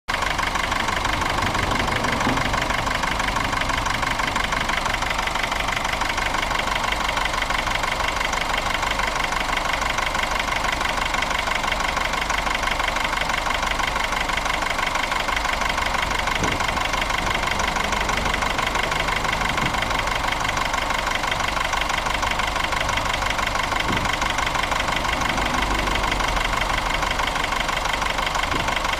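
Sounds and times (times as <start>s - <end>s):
car engine idling: 0.1s - 28.9s
fast even ticking: 0.4s - 28.9s.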